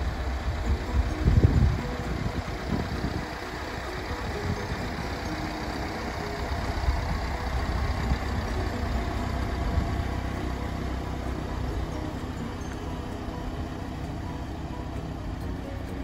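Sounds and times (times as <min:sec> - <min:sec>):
diesel van engine idling: 0:00.0 - 0:16.0.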